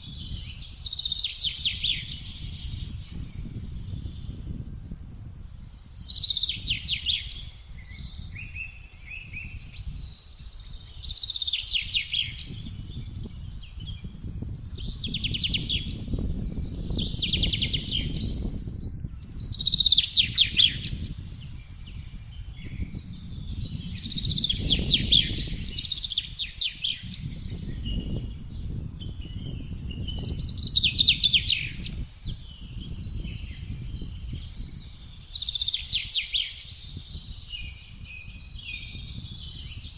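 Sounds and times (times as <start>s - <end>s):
songbird trilling: 0.0s - 39.9s
wind gusting: 0.0s - 39.9s.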